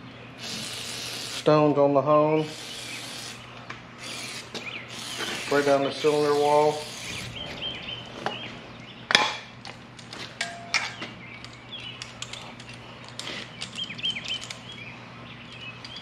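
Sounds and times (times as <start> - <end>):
birds chirping faintly: 1.6 - 9.7, 10.7 - 16.0.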